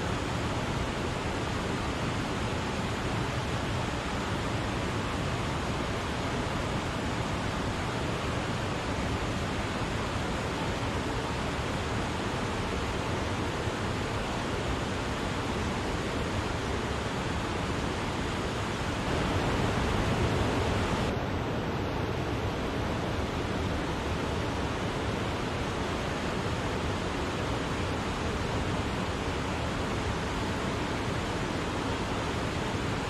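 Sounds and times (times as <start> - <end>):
waterfall rushing: 0.1 - 33.0.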